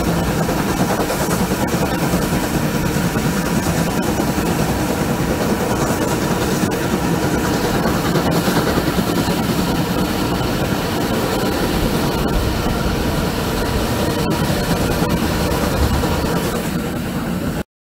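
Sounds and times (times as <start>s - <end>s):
rushing wind: 0.0s - 17.6s
train wheels rumbling on rails: 0.0s - 17.6s.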